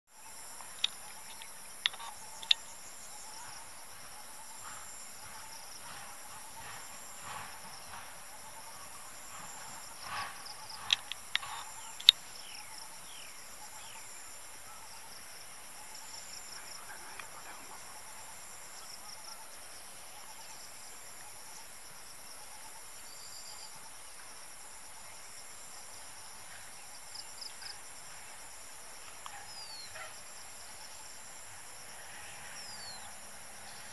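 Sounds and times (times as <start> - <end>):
insects chorus: 0.1 - 33.9.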